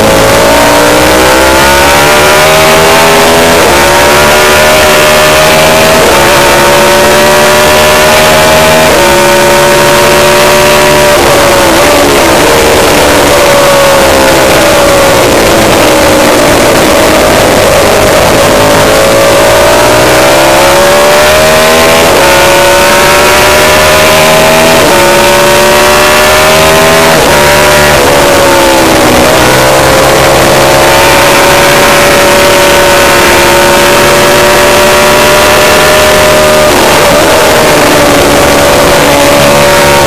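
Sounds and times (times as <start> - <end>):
racing motorcycle engine revving: 0.0 - 40.0.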